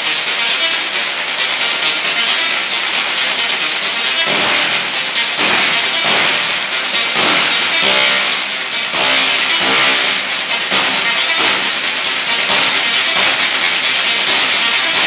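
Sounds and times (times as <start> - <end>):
tesla coil buzzing notes: 0.0 - 15.0.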